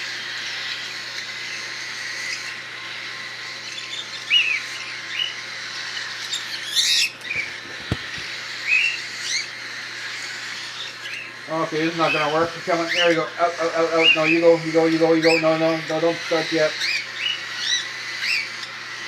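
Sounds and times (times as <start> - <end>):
cockatiel chicks chirping: 0.0 - 19.0
cockatiel screech: 0.0 - 19.0.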